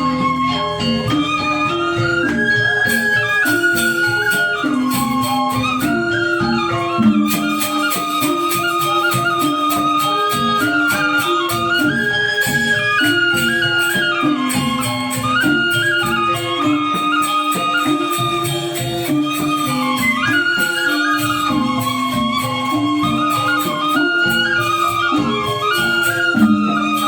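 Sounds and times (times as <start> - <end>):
gamelan ensemble playing: 0.0 - 27.0.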